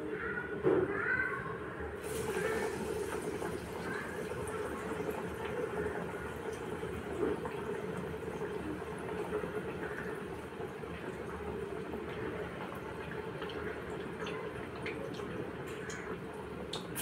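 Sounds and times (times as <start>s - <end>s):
hot oil sizzling and bubbling: 2.0s - 17.0s.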